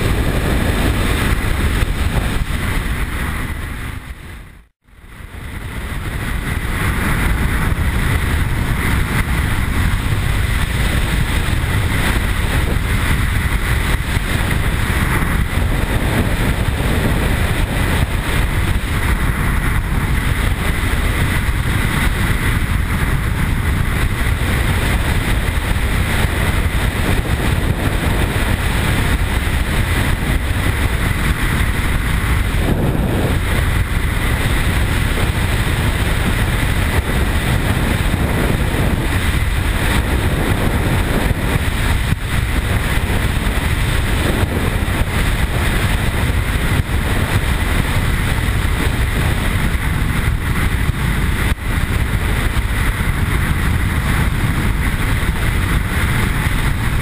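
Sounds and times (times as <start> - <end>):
motorcycle engine cruising: 0.0 - 57.0
wind noise: 0.0 - 57.0.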